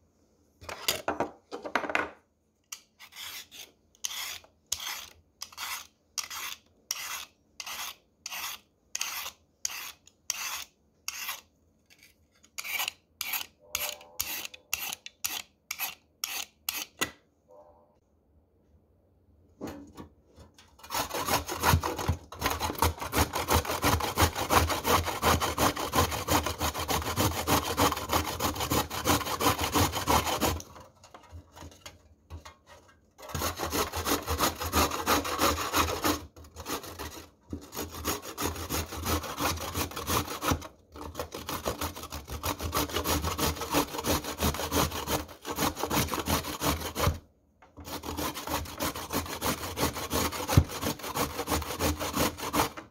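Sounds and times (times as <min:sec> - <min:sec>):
carrot grated on metal grater: 0:03.0 - 0:17.0, 0:20.8 - 0:47.2, 0:47.8 - 0:52.9.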